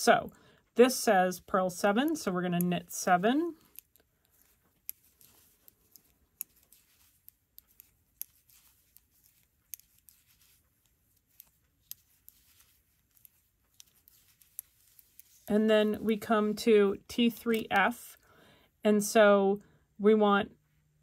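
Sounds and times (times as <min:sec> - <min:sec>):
knitting needles clicking: 0:00.9 - 0:18.2.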